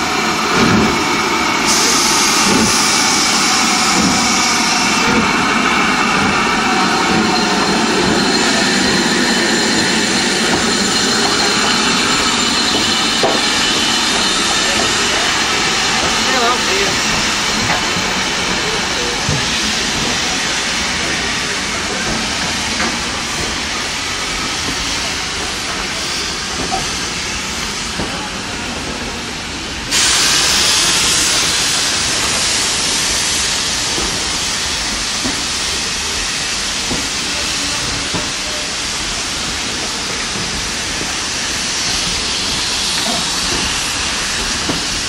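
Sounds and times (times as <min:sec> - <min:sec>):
steam hissing: 0:00.0 - 0:45.0
steam train pulling out: 0:00.0 - 0:45.0.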